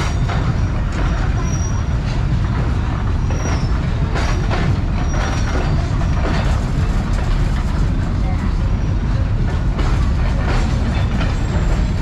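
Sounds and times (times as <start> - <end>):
freight cars clanking: 0.0 - 12.0
train wheels rumbling on rails: 0.0 - 12.0.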